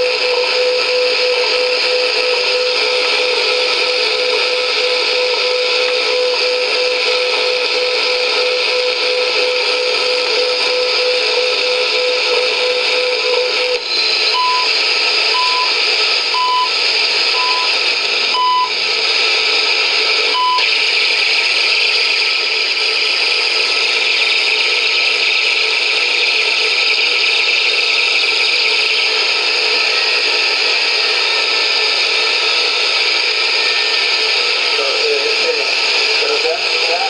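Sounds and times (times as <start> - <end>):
receiver hiss and static: 0.0 - 37.0.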